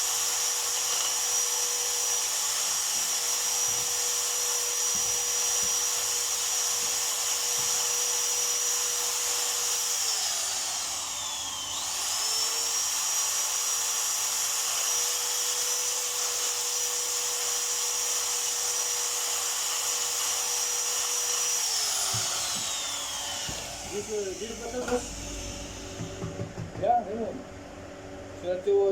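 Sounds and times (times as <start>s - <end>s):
power tool motor whining: 0.0s - 26.6s.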